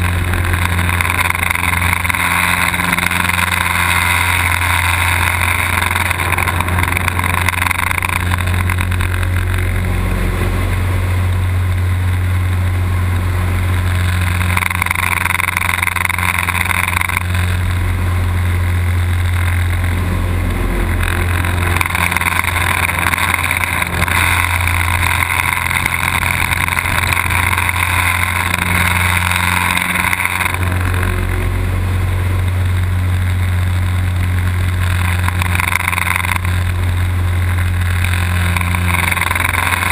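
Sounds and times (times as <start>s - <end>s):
propeller plane engine droning: 0.0s - 39.9s
rushing air: 0.0s - 39.9s.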